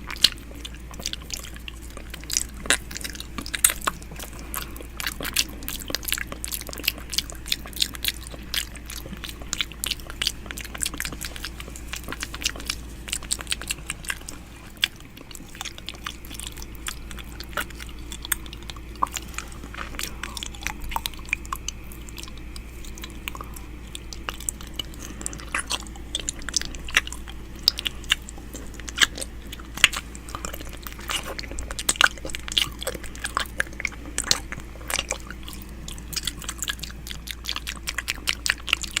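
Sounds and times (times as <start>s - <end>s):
wet lip and tongue clicking: 0.0s - 39.0s.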